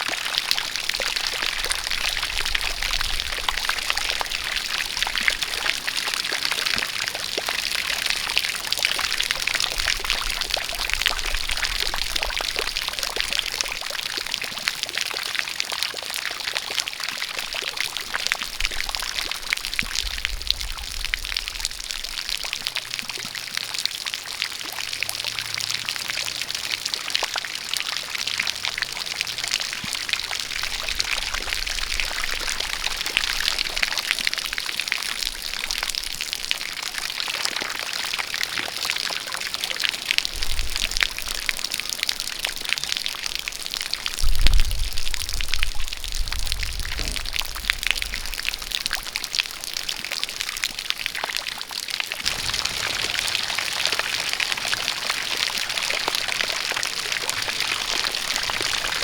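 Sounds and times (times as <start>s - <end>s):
rain falling: 0.0s - 59.0s
water jet pouring and splashing: 0.0s - 59.0s.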